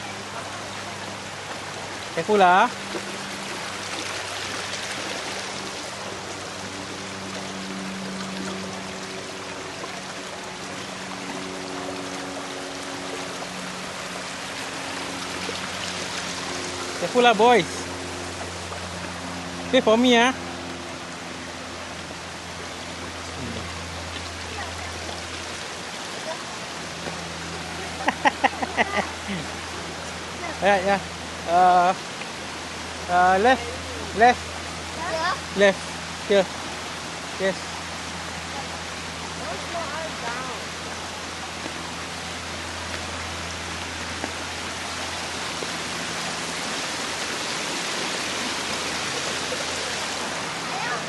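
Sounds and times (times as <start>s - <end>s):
hiss of running water: 0.0s - 51.0s.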